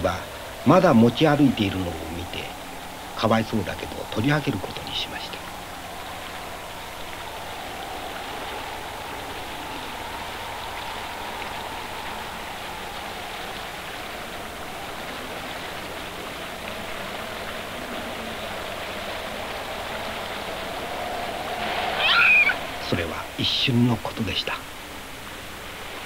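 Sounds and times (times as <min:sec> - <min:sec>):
faint wavering tone: 0:00.0 - 0:24.8
steady rushing noise: 0:00.0 - 0:26.0.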